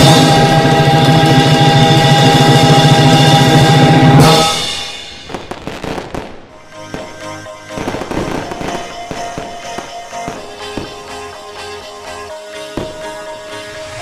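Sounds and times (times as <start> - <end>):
song chord: 0.0 - 5.3, 6.5 - 14.0
fireworks bangs and crackling: 0.0 - 14.0.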